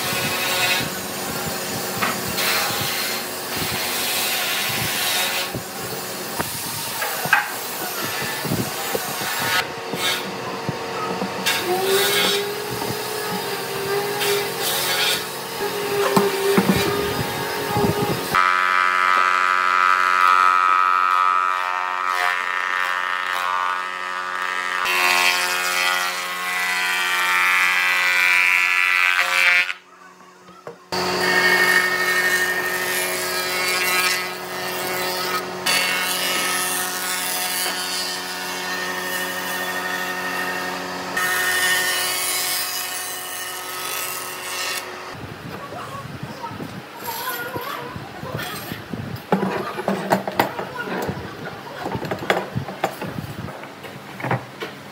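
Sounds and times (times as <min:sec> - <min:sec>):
wood planer whining: 0:00.0 - 0:45.2.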